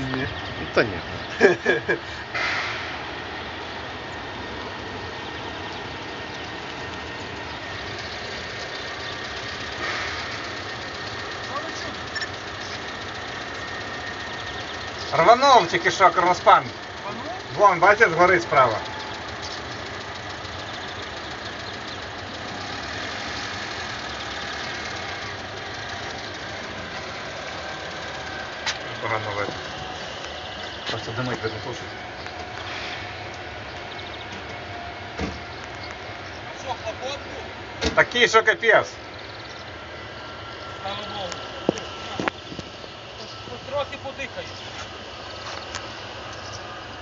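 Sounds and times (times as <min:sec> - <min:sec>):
low mechanical rumble: 0:00.0 - 0:47.0
machinery idling: 0:00.0 - 0:47.0.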